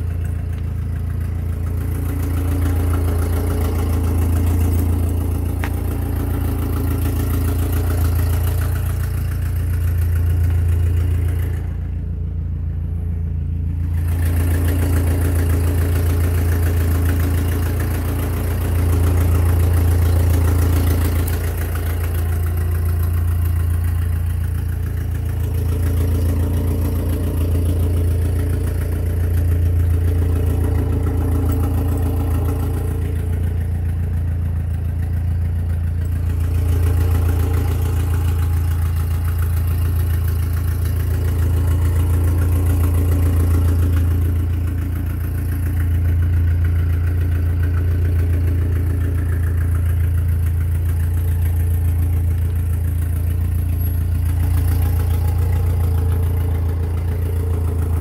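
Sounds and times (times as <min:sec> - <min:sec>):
low mechanical drone: 0:00.0 - 0:58.0.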